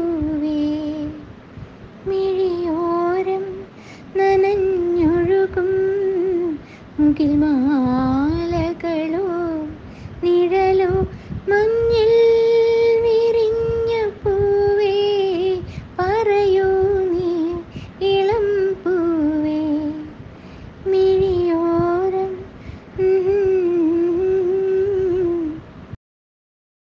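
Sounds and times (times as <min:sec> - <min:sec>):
woman singing: 0:00.0 - 0:01.3, 0:02.0 - 0:20.2, 0:20.8 - 0:25.7.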